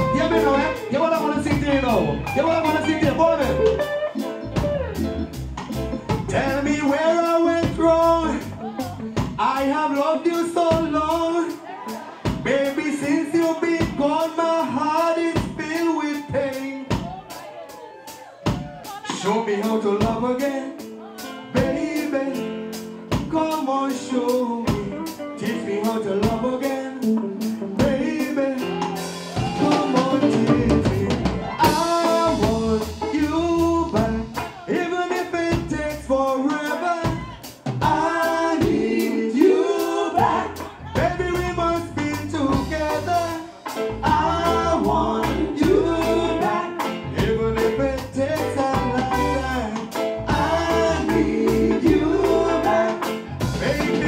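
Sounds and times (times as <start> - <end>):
man singing: 0.0 - 3.9, 6.1 - 17.3, 18.8 - 54.0
bass guitar: 0.0 - 54.0
drum kit: 0.0 - 54.0.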